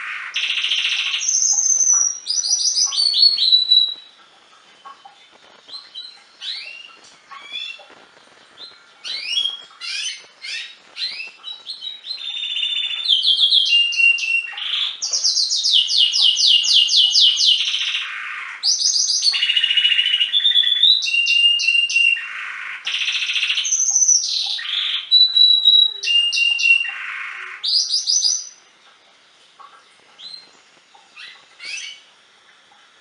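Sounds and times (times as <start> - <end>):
canary singing trills: 0.0 - 28.6, 29.2 - 32.1
faint bird chirps: 0.0 - 28.6, 29.2 - 32.1.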